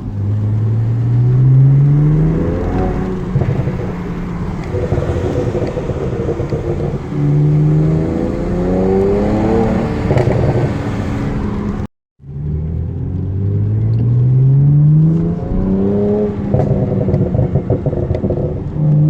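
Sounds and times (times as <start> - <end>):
car engine revving: 0.0 - 19.0
exhaust crackling and popping: 0.0 - 19.0.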